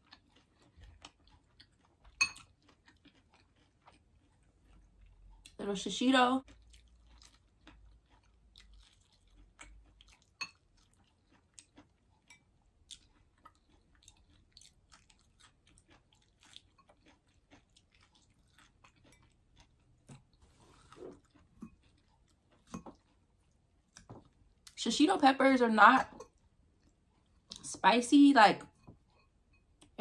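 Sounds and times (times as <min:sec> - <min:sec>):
chewing and crunching: 0:00.0 - 0:24.8.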